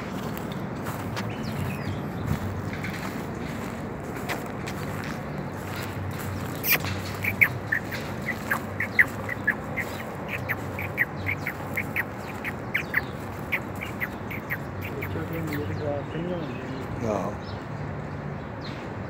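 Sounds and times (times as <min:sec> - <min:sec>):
birds chirping sharply: 0:00.8 - 0:19.0.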